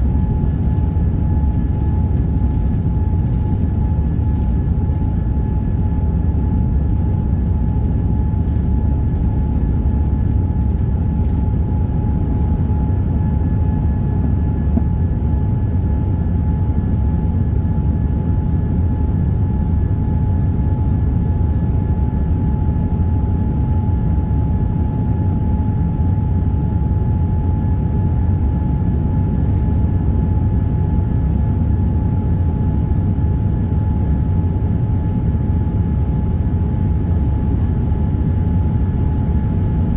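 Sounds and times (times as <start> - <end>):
jet engine deep rumble: 0.0 - 39.9.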